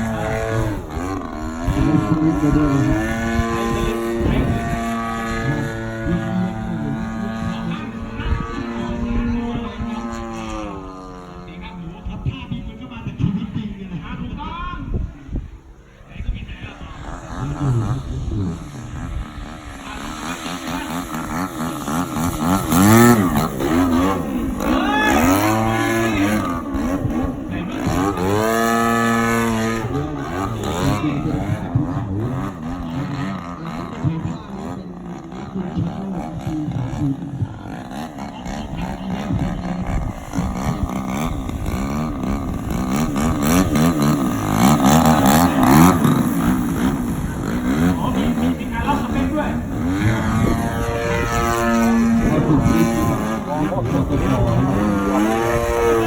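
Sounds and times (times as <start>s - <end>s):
model plane engine revving: 0.0s - 12.2s, 16.7s - 56.0s.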